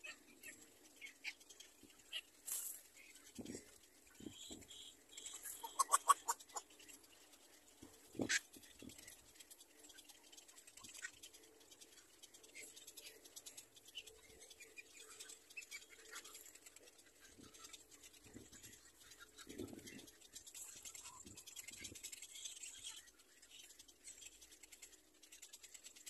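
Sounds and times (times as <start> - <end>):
soft ticks and rustles: 0.0 - 26.0.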